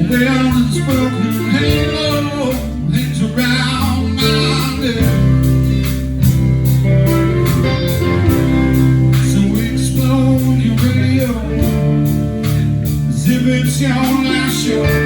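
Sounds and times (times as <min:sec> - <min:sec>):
guitar: 0:00.0 - 0:15.0
live band playing: 0:00.0 - 0:15.0
steady drum beat: 0:00.0 - 0:15.0
strong low notes: 0:00.0 - 0:15.0.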